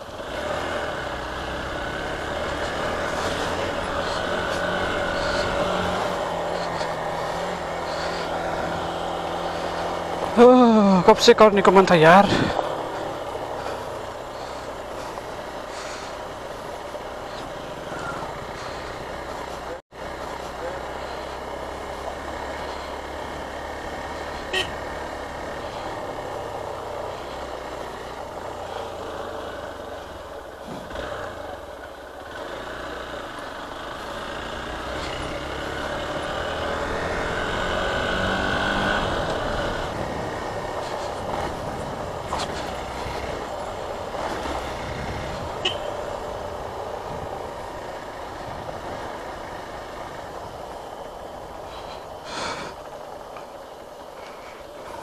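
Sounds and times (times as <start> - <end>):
motorcycle engine running: 0.0 - 55.0
road and wind noise: 0.0 - 55.0
traffic: 0.0 - 55.0.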